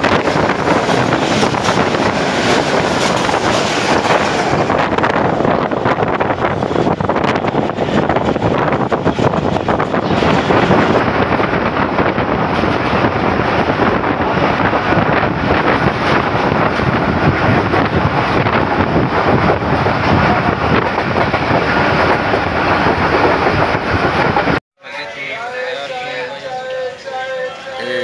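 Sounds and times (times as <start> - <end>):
train wheel and wind rush: 0.0 - 24.6
wind buffeting microphone: 0.0 - 24.6.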